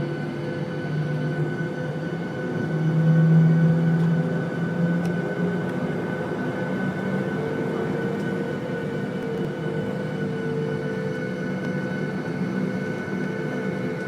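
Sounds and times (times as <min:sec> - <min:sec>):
jet engine cabin hum: 0:00.0 - 0:14.0.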